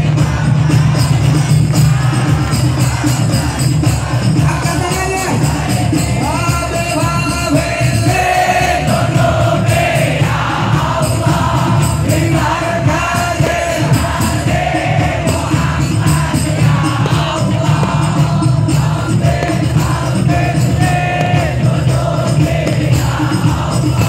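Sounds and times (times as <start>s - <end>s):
crowd singing devotional song: 0.0s - 24.0s
lead voice singing: 0.0s - 24.0s
steady drum beat: 0.0s - 24.0s.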